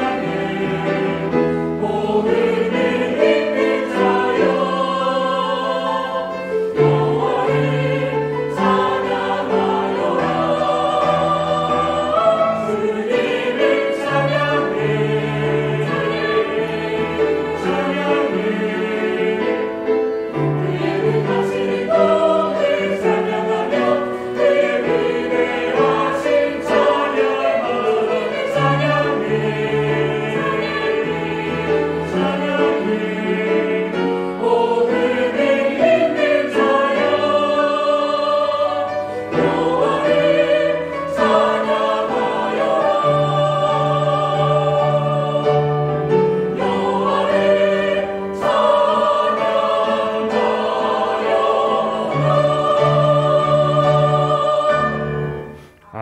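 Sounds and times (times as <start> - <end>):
choir singing sustained chords: 0.0 - 56.0.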